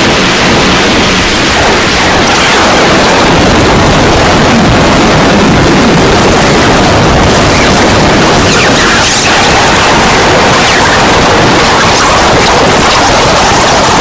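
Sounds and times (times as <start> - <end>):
harsh distorted noise music: 0.0 - 14.0.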